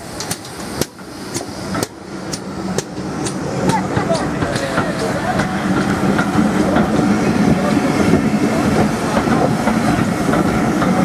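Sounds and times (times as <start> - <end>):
clicking over rail joints: 0.0 - 11.0
train wheels rumbling on rails: 0.0 - 11.0.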